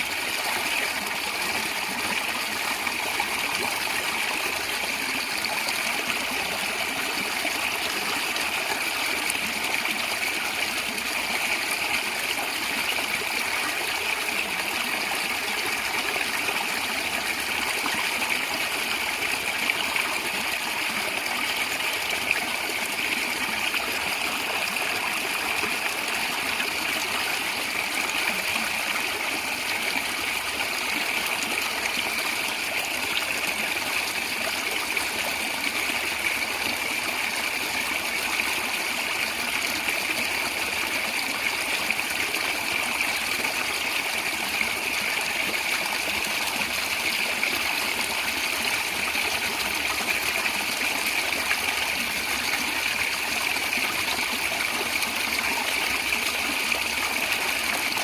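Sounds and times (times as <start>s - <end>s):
stream gurgling over stones: 0.0s - 58.0s.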